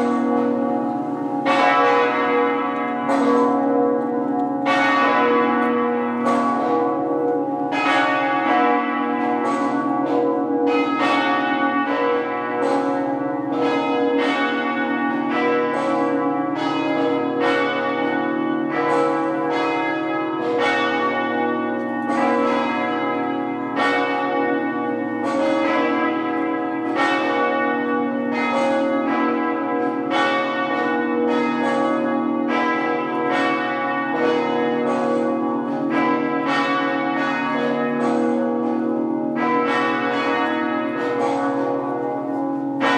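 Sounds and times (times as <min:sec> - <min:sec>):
half-muffled church bells pealing: 0:00.0 - 0:42.9.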